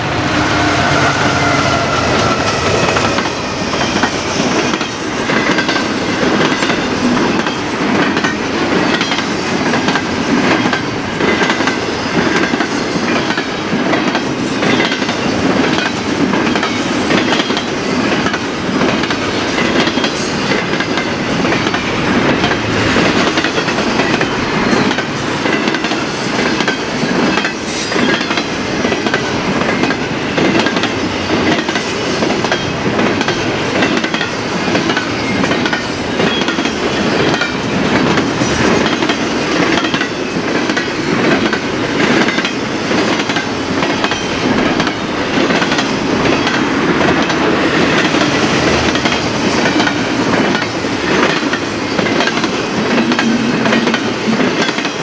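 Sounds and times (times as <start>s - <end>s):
freight train rolling past: 0.0s - 55.0s
wheels clickety-clack on rails: 0.6s - 55.0s.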